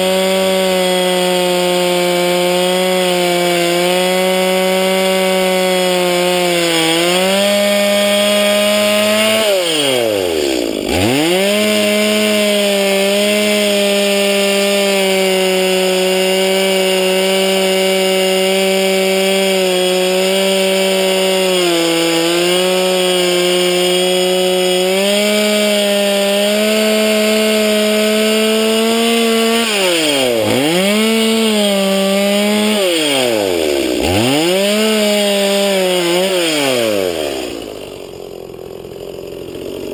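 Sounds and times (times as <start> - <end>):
chainsaw cutting at high revs: 0.0 - 39.9.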